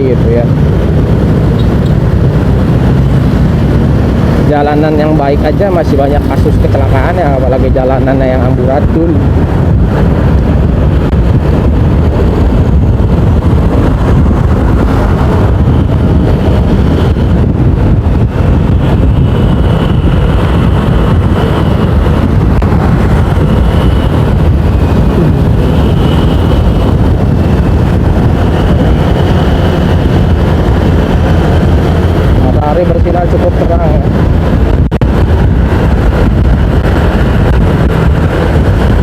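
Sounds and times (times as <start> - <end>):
motorcycle engine and road noise: 0.0 - 39.0
wind buffeting: 0.0 - 39.0.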